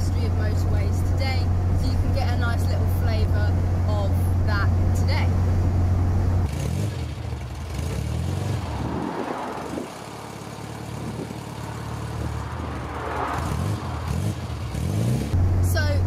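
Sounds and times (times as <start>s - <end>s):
car engine exhaust note: 0.0s - 16.0s.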